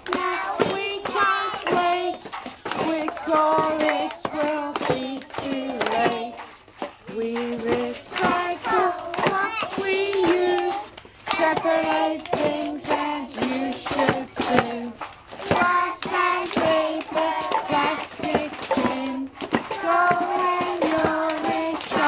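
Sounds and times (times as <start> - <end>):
children singing: 0.0 - 22.0
hands clapping: 0.0 - 22.0
homemade instruments rattling: 0.0 - 22.0.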